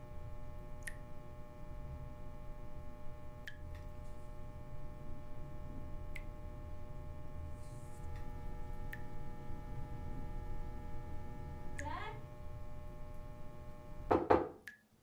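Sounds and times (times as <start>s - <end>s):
hum of held tones: 0.0s - 14.2s.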